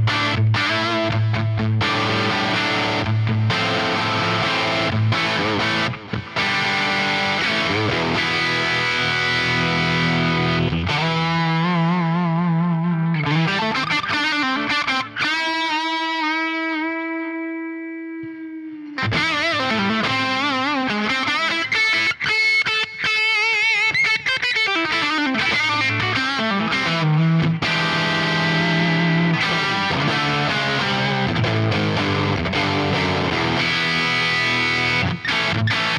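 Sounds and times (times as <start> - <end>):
overdriven electric guitar riffs: 0.0 - 35.9.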